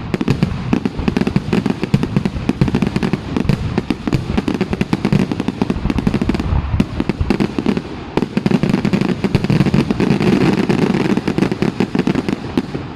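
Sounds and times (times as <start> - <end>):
fireworks bangs and cracks: 0.0 - 12.9.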